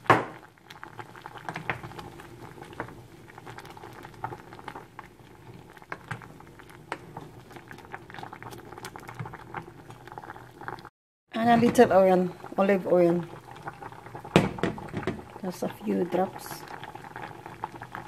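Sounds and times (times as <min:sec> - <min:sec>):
soup boiling and bubbling: 0:00.0 - 0:18.0.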